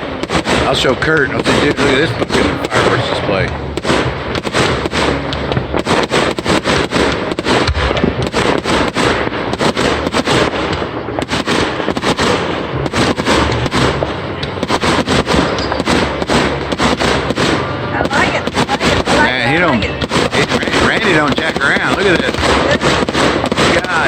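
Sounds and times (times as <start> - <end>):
fireworks sharp bangs: 0.0 - 24.0.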